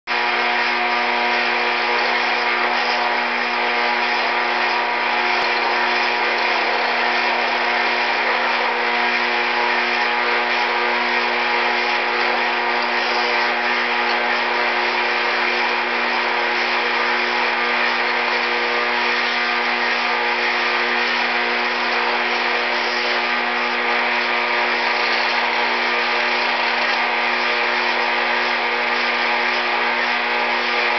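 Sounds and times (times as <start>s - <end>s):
steady electric buzz: 0.1s - 30.9s.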